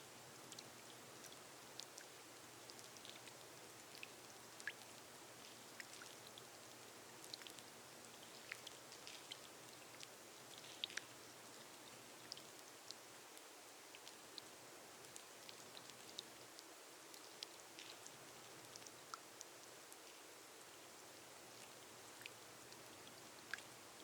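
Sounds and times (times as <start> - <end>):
rain hiss on glass roof: 0.0 - 24.0.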